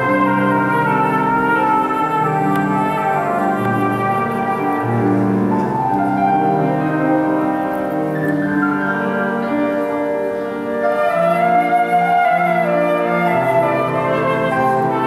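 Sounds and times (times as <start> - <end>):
flute: 0.0 - 15.0
piano: 0.0 - 15.0.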